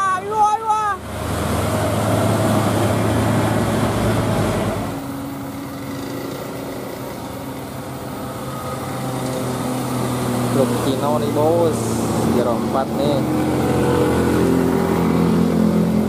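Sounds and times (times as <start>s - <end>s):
diesel trucks pulling uphill: 0.0s - 16.0s
road noise: 0.0s - 16.0s
truck diesel engine droning: 0.0s - 16.0s.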